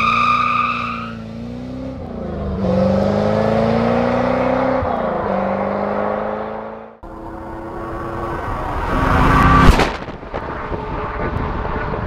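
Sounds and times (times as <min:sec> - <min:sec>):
car engine accelerating: 0:01.0 - 0:12.0.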